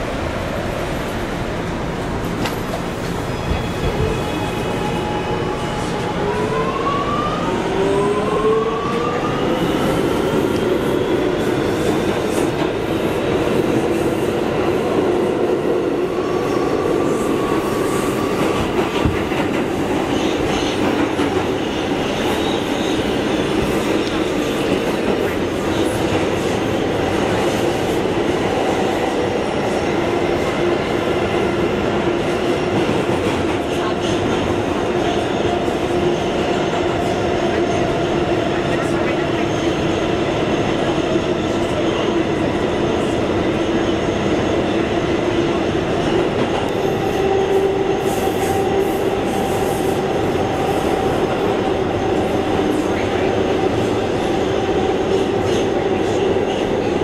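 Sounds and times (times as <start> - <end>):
subway train wheels rumbling on rail: 0.0 - 57.0.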